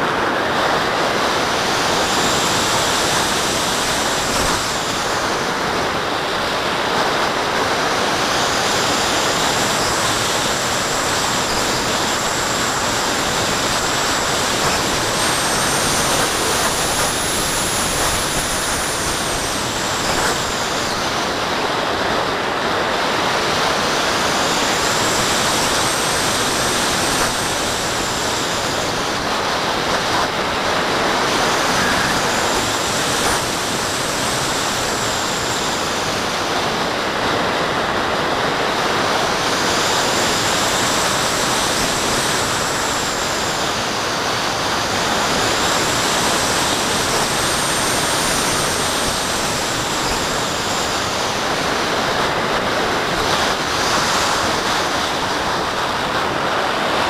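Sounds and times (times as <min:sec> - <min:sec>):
airflow rushing over camera: 0:00.0 - 0:22.5, 0:23.2 - 0:57.0.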